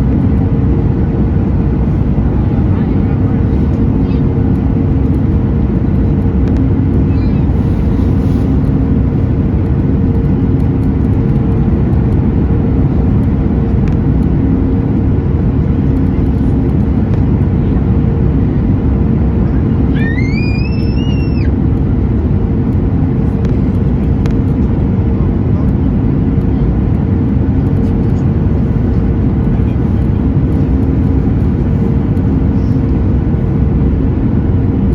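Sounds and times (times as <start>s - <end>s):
aircraft cabin engine rush: 0.0s - 34.9s.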